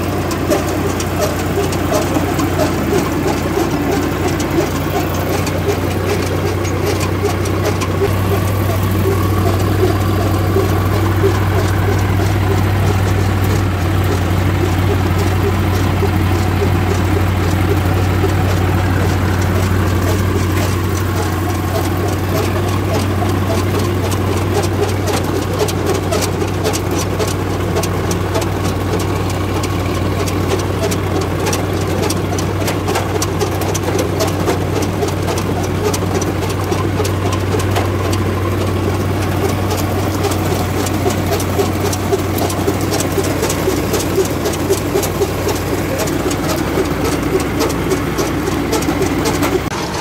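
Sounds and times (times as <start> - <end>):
mechanical clicking and rattling: 0.0 - 50.0
tractor engine running: 0.0 - 50.0.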